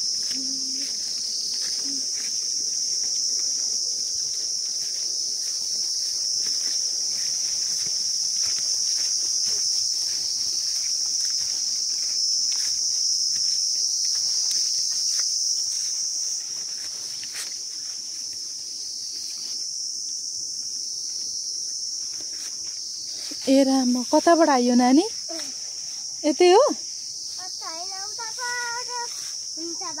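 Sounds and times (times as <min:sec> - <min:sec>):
insect chorus drone: 0:00.0 - 0:30.0
soft footsteps on a path: 0:00.0 - 0:30.0.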